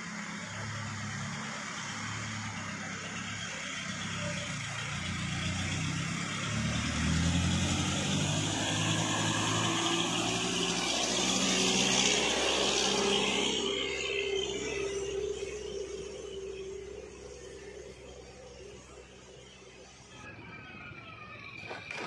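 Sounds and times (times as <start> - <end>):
diesel truck engine passing: 0.0 - 22.0.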